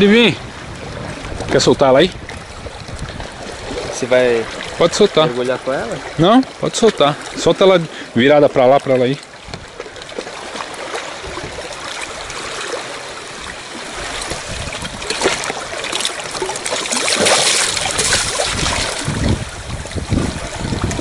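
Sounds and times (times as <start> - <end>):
seawater splashing among rocks: 0.0 - 21.0.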